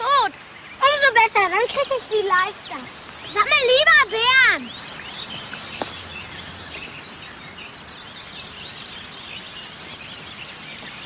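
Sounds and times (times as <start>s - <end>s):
small birds chirping and warbling: 0.0s - 11.0s.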